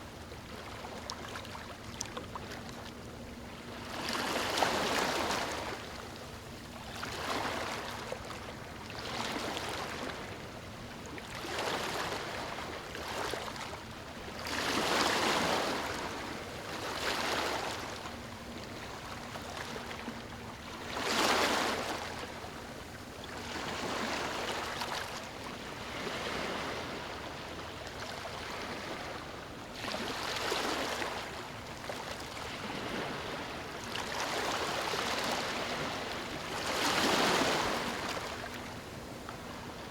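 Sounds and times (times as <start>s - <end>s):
ocean waves breaking on shore: 3.4s - 39.9s.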